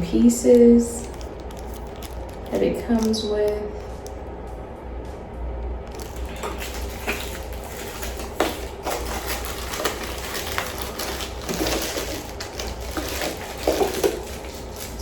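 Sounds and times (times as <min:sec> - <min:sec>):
plastic packaging crinkling: 0:00.0 - 0:04.3, 0:05.8 - 0:15.0.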